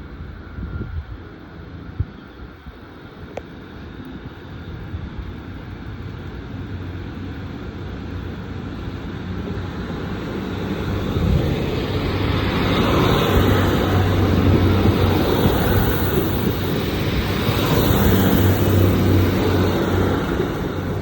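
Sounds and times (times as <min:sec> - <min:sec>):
diesel train engine rumble: 0:00.0 - 0:21.0.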